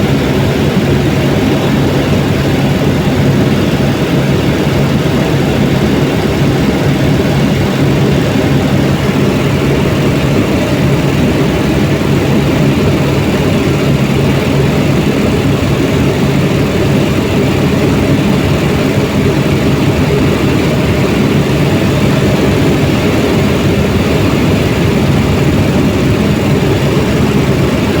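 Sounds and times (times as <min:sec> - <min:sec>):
helicopter engine and rotor: 0:00.0 - 0:28.0.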